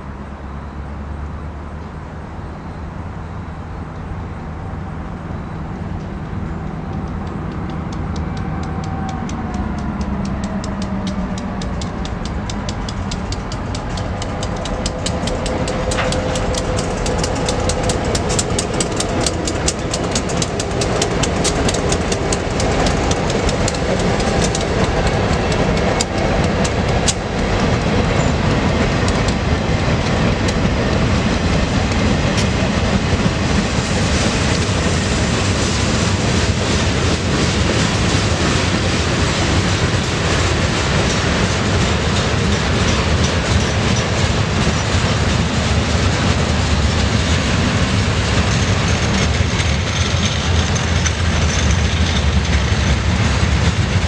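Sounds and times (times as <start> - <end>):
diesel locomotive engine: 0.0 - 54.0
train wheels clattering over rails: 5.8 - 54.0.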